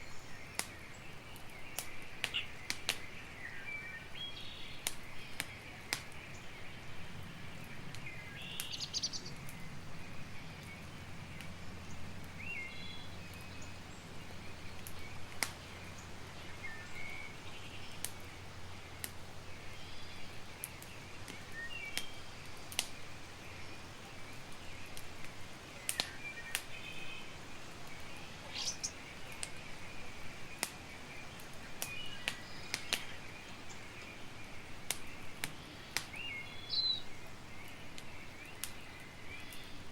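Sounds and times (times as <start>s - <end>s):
birds chirping: 0.0s - 39.9s
campfire crackling and popping: 0.0s - 39.9s.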